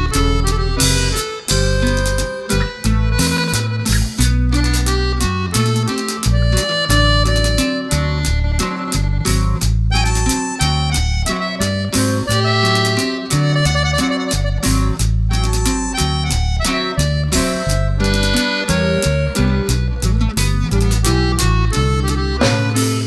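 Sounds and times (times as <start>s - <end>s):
background music with steady beat: 0.0s - 23.0s.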